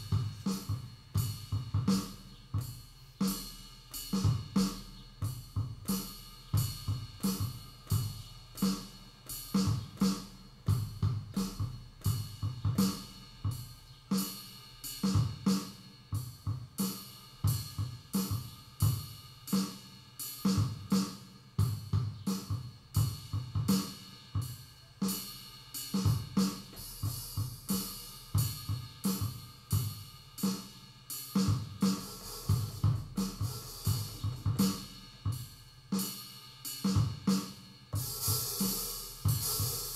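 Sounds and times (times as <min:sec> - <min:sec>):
electronic drum beat: 0:00.0 - 0:39.9.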